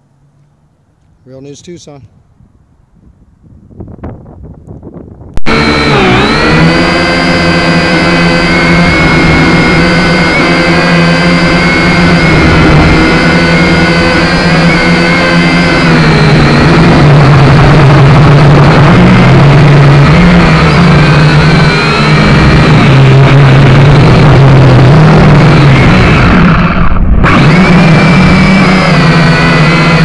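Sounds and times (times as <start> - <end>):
drone propellers humming and whining: 5.4 - 30.0.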